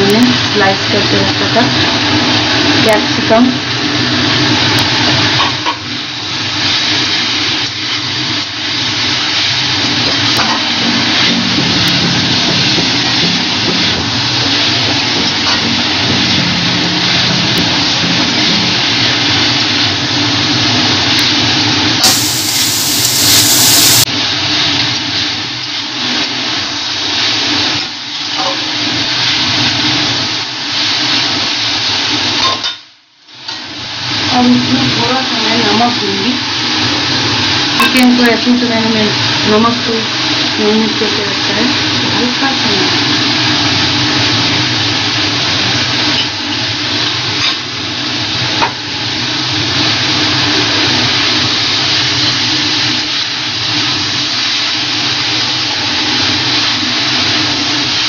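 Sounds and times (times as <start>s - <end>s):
food sizzling in hot oil: 0.2s - 32.4s, 33.6s - 58.0s.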